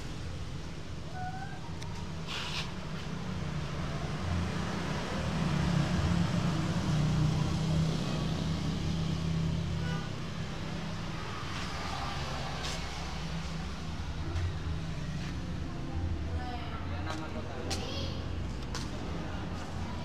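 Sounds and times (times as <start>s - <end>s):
low rumble of road traffic: 0.0s - 20.0s
vehicle engine: 0.0s - 20.0s.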